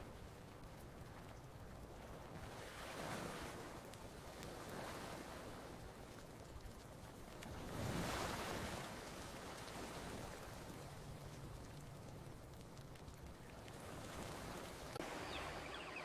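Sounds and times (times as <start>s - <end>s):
campfire crackling: 0.0s - 16.0s
ocean waves breaking on beach: 0.0s - 16.0s.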